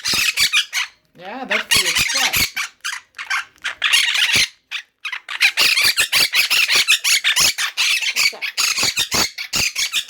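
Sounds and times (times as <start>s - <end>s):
parrot squawking: 0.0s - 10.0s.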